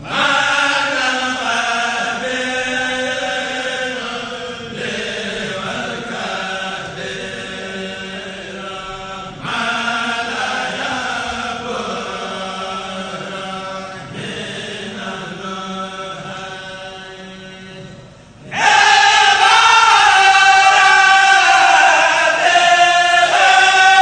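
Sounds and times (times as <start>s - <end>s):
men chanting over microphones: 0.0s - 24.0s.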